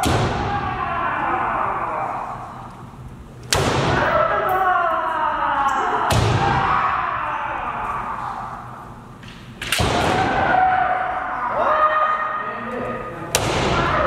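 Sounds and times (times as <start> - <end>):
echoing shouts: 0.0 - 2.9, 3.7 - 9.1, 9.8 - 14.0.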